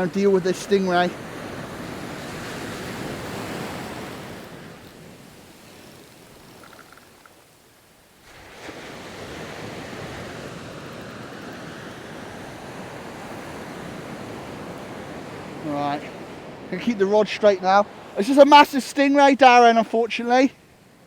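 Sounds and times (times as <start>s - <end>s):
surf washing onto beach: 0.0s - 21.0s.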